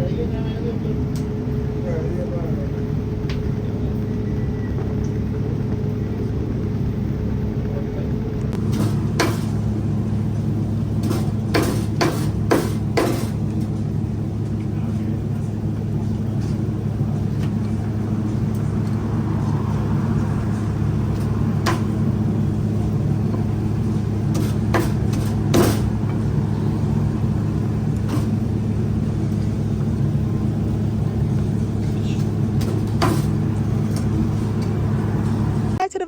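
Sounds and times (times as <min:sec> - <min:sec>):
car engine and road drone: 0:00.0 - 0:35.9.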